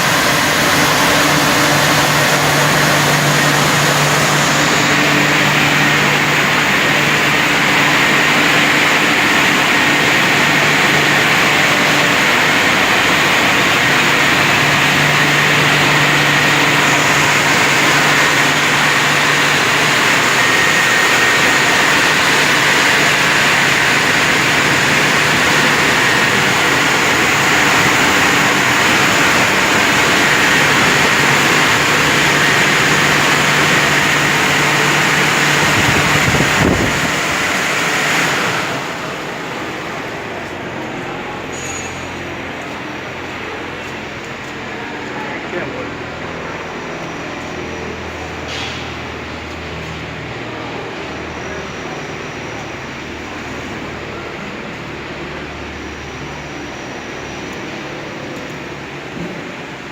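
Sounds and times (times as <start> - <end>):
low machinery hum: 0.0 - 59.9
vehicle wash machine spraying water: 0.0 - 59.9.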